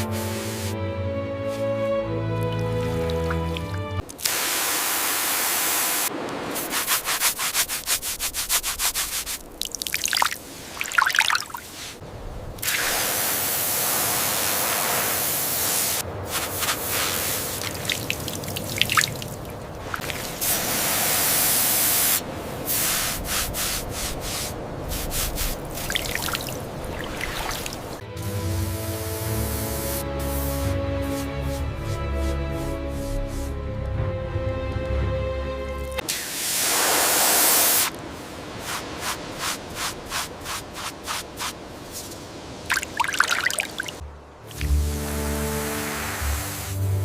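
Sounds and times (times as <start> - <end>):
water spray hissing: 0.0 - 0.8, 1.4 - 12.0, 12.6 - 33.6, 36.0 - 43.9, 44.5 - 47.0.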